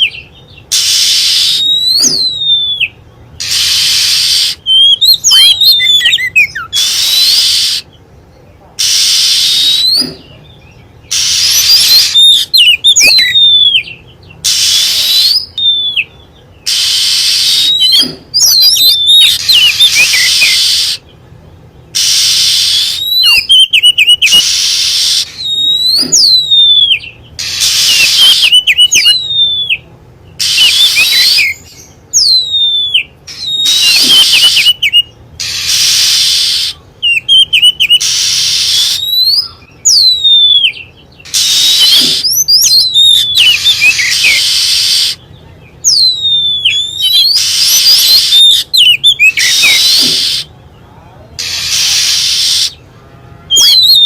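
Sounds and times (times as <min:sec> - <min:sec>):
harsh hissy bird notes: 0:00.0 - 0:07.9, 0:08.8 - 0:10.4, 0:11.1 - 0:16.0, 0:16.6 - 0:21.1, 0:21.9 - 0:39.9, 0:40.7 - 0:45.2, 0:46.6 - 0:50.6, 0:51.4 - 0:54.0
bird whistling and trilling: 0:00.0 - 0:08.0, 0:08.8 - 0:21.1, 0:21.9 - 0:50.6, 0:51.4 - 0:52.9, 0:53.5 - 0:54.0.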